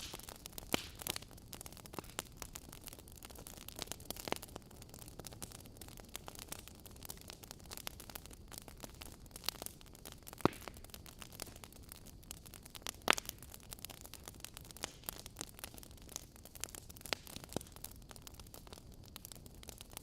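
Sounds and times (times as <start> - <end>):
logs crackling and popping: 0.0 - 20.0
soft steady hiss: 0.0 - 20.0.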